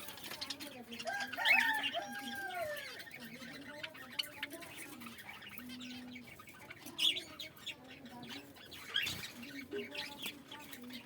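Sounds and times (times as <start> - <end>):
birds chirping and squawking: 0.0 - 11.0.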